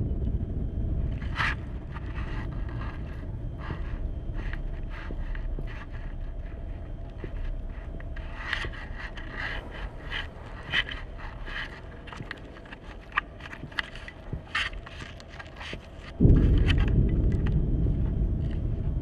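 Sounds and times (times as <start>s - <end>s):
steady low hum: 0.0s - 19.0s
scraping and clicking: 1.3s - 17.6s.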